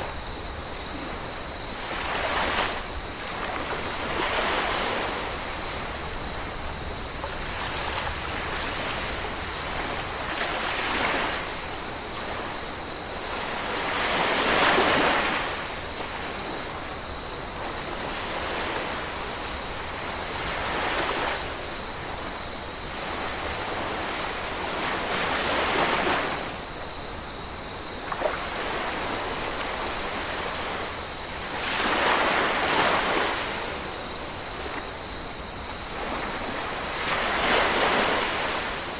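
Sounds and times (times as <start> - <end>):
ocean waves washing on beach: 0.0 - 38.9.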